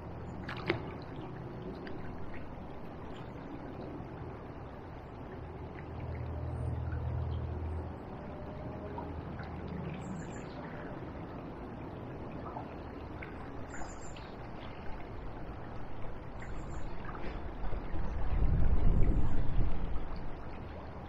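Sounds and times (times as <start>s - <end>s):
low uneven rumble: 0.0s - 21.0s.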